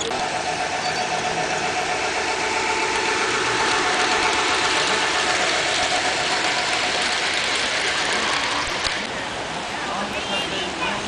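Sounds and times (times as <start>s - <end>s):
model train wheels clicking on rails: 0.0s - 9.7s.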